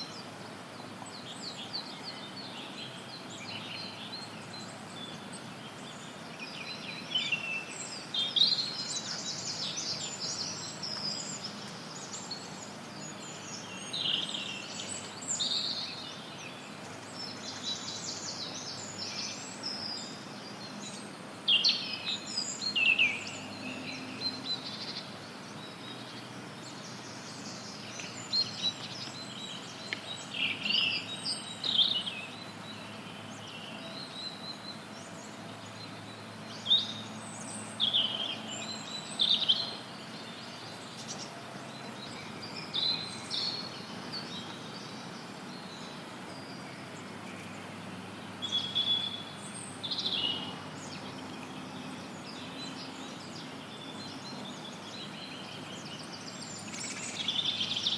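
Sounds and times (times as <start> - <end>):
songbirds singing and chirping: 0.0 - 57.9
white noise hiss: 0.0 - 57.9.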